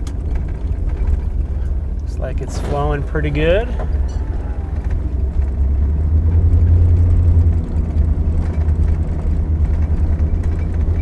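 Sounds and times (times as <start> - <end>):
engine and road rumble: 0.0 - 11.0
faint rattles: 0.0 - 11.0.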